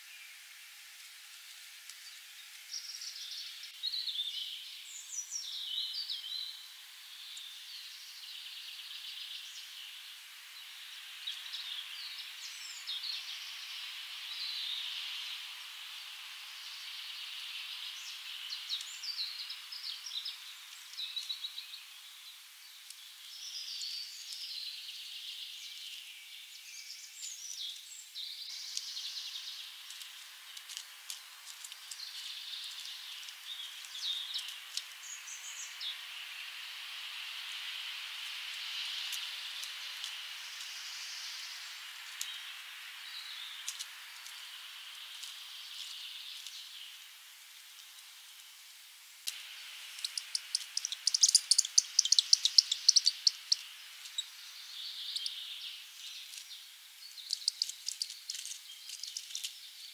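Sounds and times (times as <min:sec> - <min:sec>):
faint hiss: 0:00.0 - 0:59.9
songbirds singing: 0:01.4 - 0:59.9.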